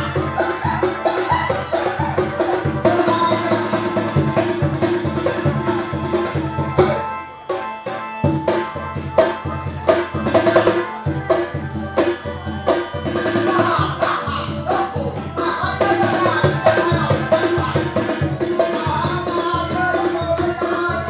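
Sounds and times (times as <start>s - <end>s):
dance music with drum beat: 0.0s - 7.1s, 8.2s - 21.0s.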